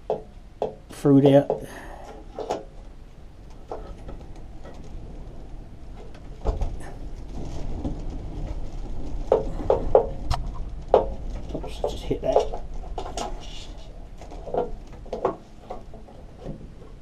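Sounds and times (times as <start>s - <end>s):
wind rumble on microphone: 2.9s - 17.0s.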